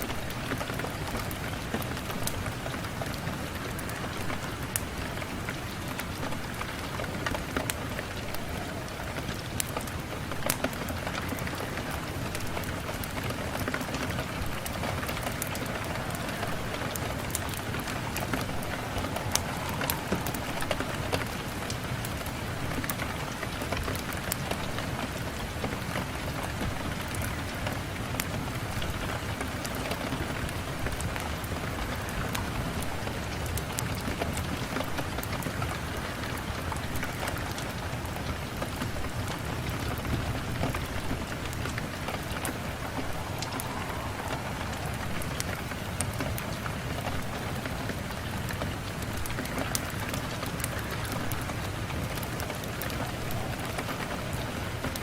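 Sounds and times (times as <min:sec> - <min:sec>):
rain on a window: 0:00.0 - 0:55.0
raindrop ticks: 0:00.0 - 0:55.0.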